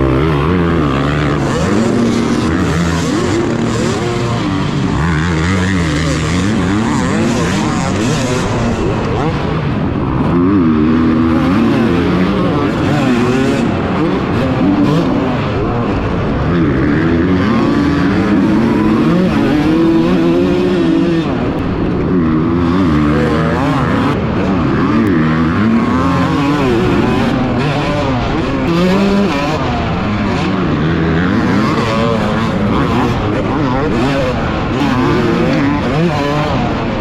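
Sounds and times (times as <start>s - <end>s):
pit bike engines revving: 0.0s - 37.0s.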